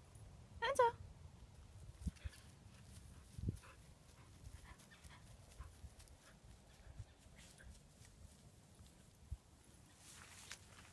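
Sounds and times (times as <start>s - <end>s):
footsteps in dry grass: 1.8s - 10.9s
rustling in dry grass: 1.8s - 10.9s.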